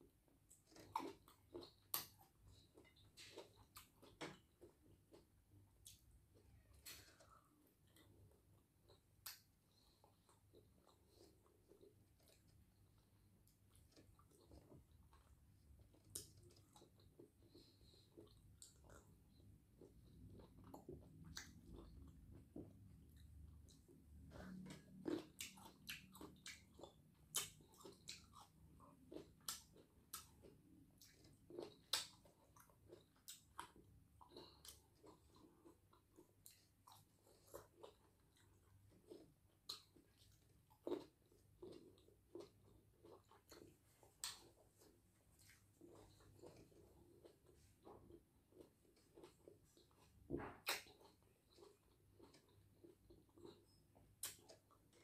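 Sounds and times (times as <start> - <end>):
person chewing grapes: 0.0 - 55.0.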